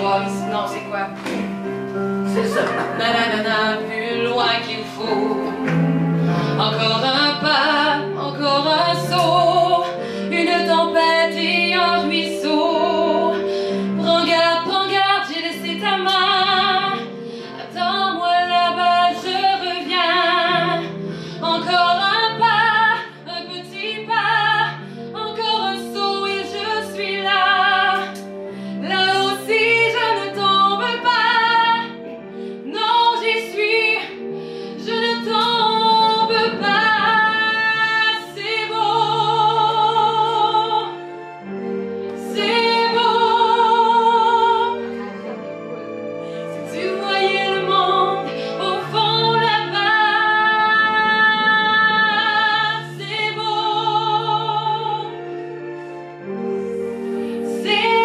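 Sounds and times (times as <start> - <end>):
instrumental accompaniment: 0.0 - 58.0
woman singing into microphone: 2.2 - 28.2, 28.8 - 41.0, 42.2 - 45.3, 46.5 - 55.3, 57.4 - 58.0.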